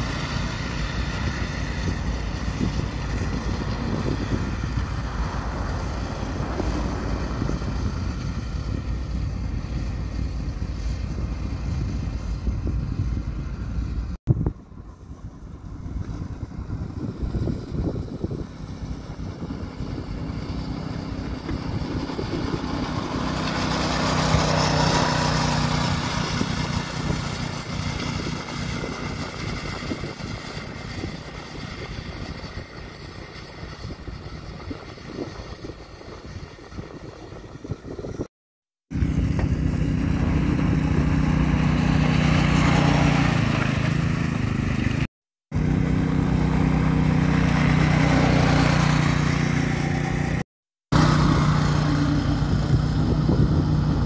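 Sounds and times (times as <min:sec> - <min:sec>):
small buggy engine running: 0:00.0 - 0:38.3, 0:38.9 - 0:54.0.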